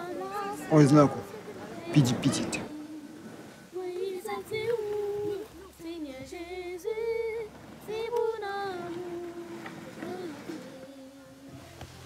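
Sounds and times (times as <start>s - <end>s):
woman singing slow melody: 0.0s - 12.0s.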